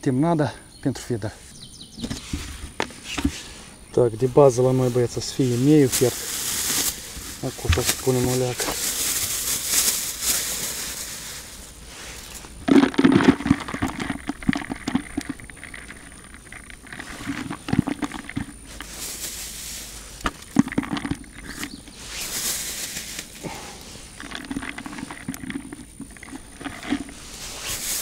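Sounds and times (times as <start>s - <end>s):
rustling and crunching by hand: 2.0s - 28.0s.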